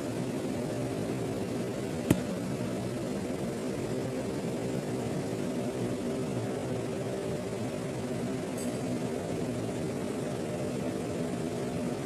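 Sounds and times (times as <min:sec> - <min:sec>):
industrial machinery hum: 0:00.0 - 0:12.0.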